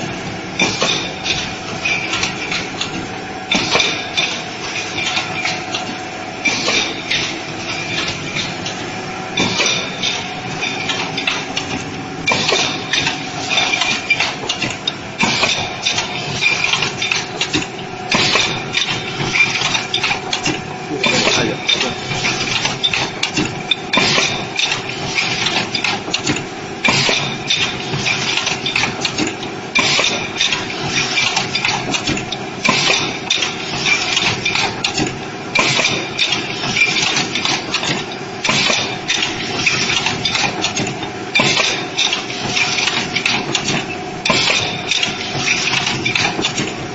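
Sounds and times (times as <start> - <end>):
clatter of clicks and knocks: 0.6 - 8.8, 9.4 - 46.8.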